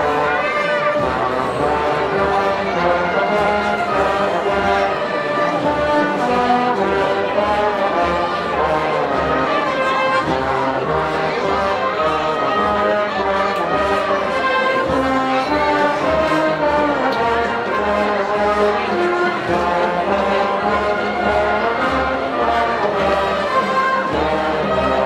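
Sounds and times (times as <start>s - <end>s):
brass band playing a march: 0.0s - 25.0s.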